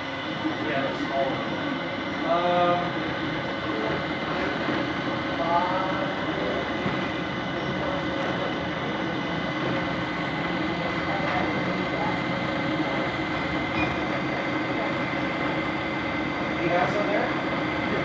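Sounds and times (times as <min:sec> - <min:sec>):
printer mechanical whir: 0:00.3 - 0:18.0.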